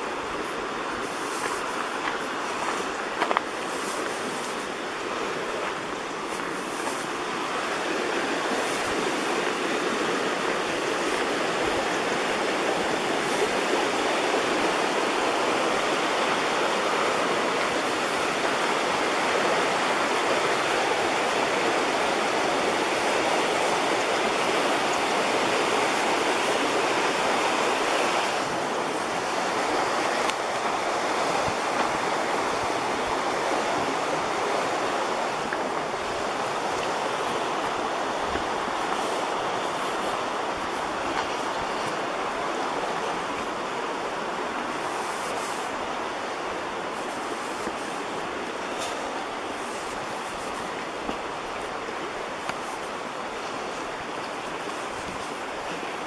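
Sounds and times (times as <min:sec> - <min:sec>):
creek rushing: 0:00.0 - 0:56.0.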